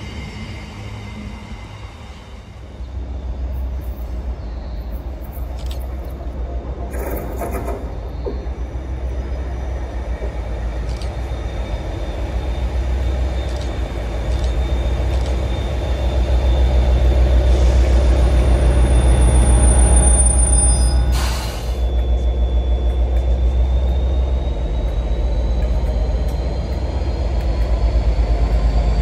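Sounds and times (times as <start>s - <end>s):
diesel locomotive engine rumble: 0.0s - 29.0s.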